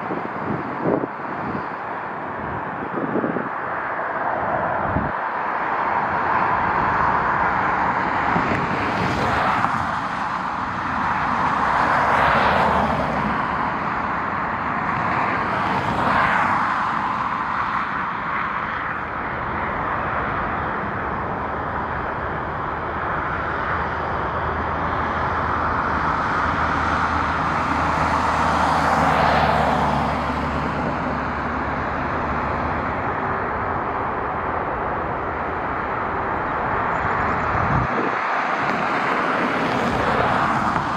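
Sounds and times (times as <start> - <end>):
road vehicles passing: 0.0 - 40.9.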